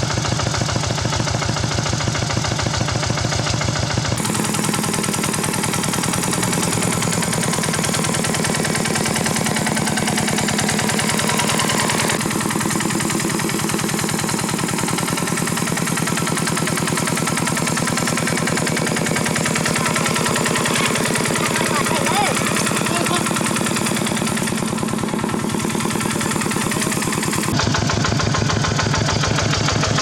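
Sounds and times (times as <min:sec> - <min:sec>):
tractor engine chugging: 0:00.0 - 0:30.0.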